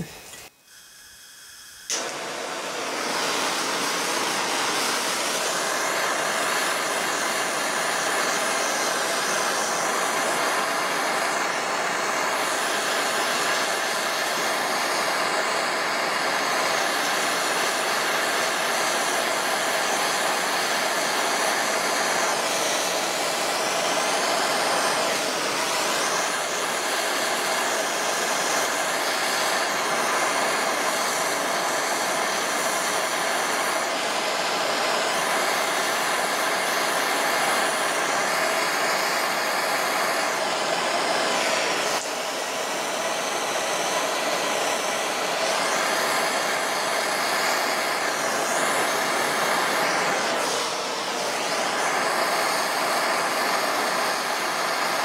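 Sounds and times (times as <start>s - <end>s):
torch flame hissing: 0.0s - 55.0s.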